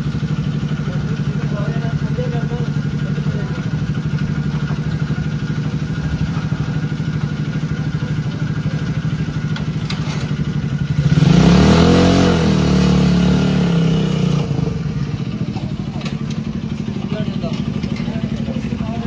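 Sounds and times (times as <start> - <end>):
small tractor engine idling and revving: 0.0 - 19.0.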